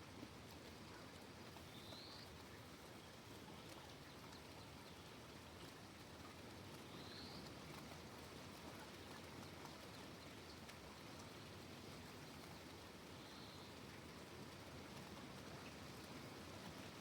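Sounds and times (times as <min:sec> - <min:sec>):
light rain patter: 0:00.0 - 0:17.0.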